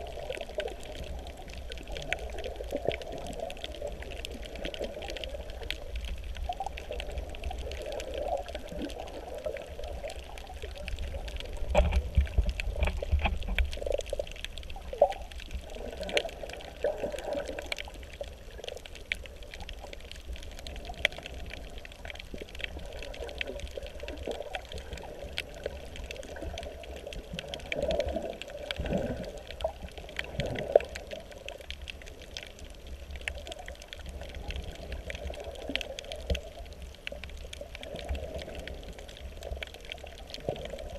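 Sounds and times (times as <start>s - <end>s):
faint scattered clicks: 0.0s - 40.9s
low underwater rumble: 0.0s - 40.9s
water sloshing and bubbling: 0.0s - 40.9s.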